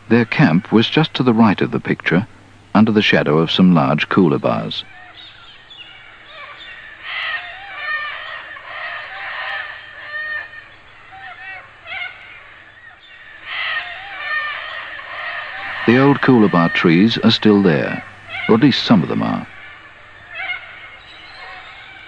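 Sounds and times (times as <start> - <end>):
flock of birds calling: 0.0 - 22.0.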